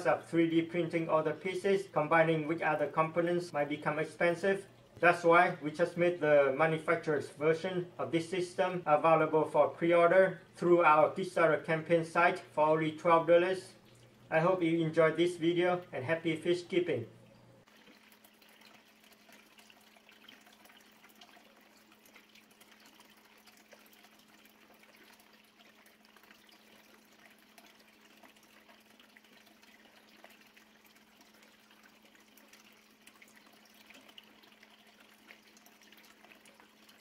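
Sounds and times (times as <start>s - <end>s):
water trickling and dripping: 0.0s - 8.0s, 13.2s - 16.0s, 16.6s - 37.0s.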